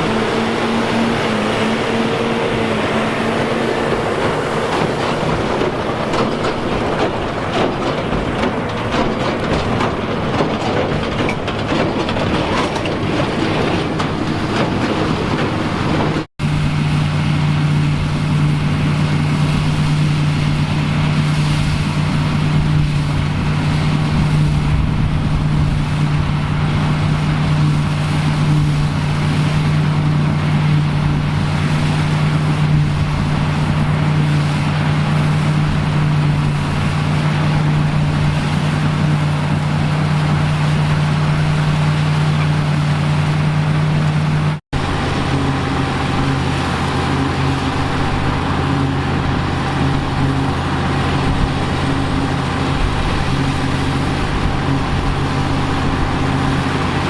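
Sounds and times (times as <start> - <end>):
engine running with low hum: 0.0 - 57.0
farm machinery rattling: 0.0 - 57.0.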